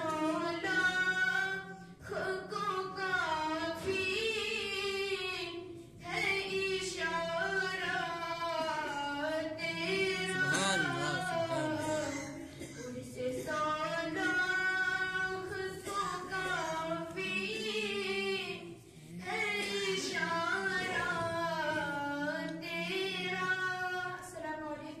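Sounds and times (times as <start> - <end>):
boy singing into a microphone: 0.0 - 25.0.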